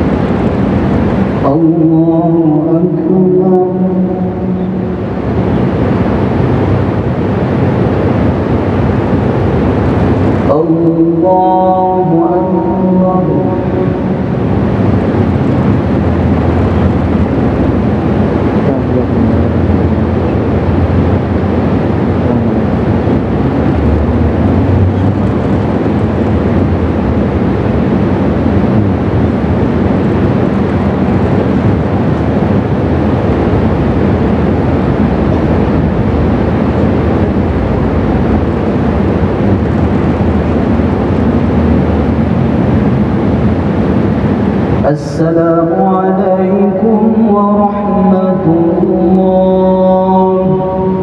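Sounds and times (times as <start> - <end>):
rumbling hall background noise: 0.0 - 51.0.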